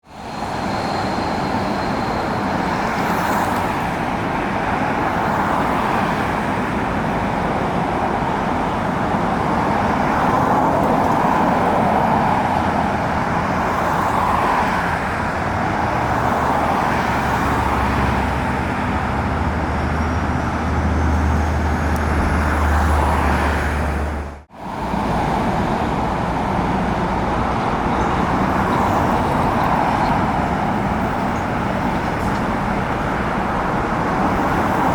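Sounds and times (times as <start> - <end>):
engine roar: 6.8 - 34.9.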